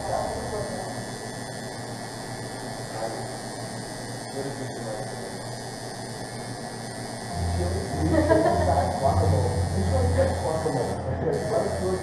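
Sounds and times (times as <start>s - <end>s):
tattoo machine humming: 0.0s - 12.0s.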